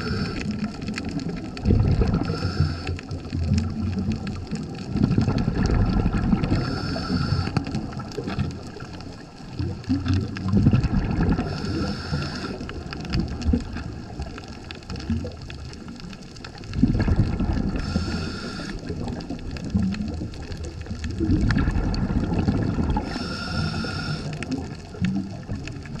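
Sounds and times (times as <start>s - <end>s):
underwater gurgling rumble: 0.0s - 26.0s.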